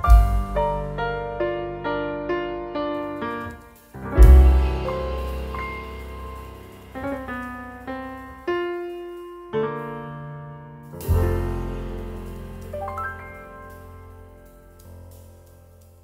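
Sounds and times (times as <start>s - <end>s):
deep low piano note: 0.0s - 10.2s, 10.9s - 15.8s
piano music: 0.0s - 16.0s.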